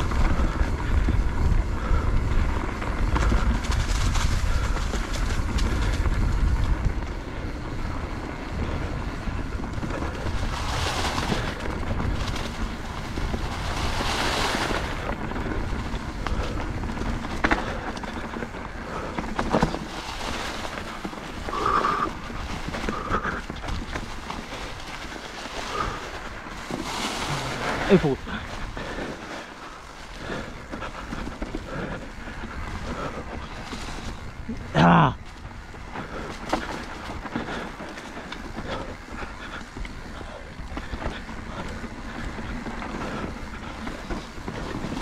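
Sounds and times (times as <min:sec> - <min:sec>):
bike knocks and rattles: 0:00.0 - 0:07.2, 0:08.1 - 0:45.0
hissing trail noise: 0:00.0 - 0:45.0
wind buffeting microphone: 0:00.0 - 0:45.0.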